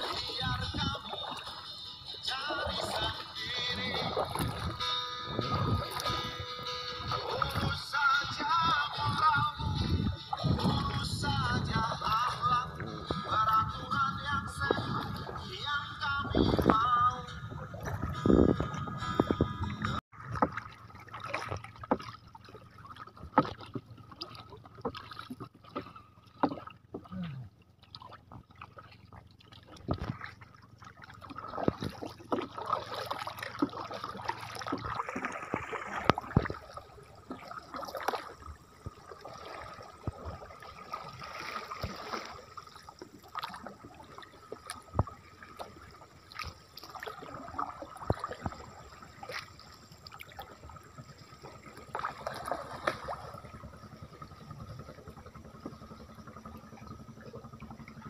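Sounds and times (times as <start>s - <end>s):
water dripping from paddle: 0.0s - 18.8s, 19.9s - 58.0s
paddle dipping through water: 0.0s - 58.0s
water splashes: 0.0s - 58.0s.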